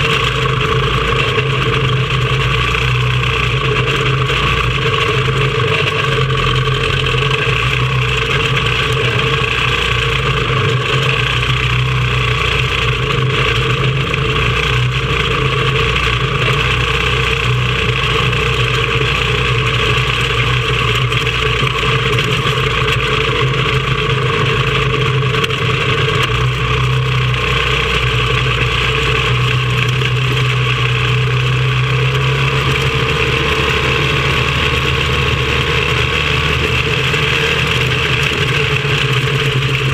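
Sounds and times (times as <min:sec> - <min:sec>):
other kart engines: 0:00.0 - 0:39.9
racing kart engine running hard: 0:00.0 - 0:39.9.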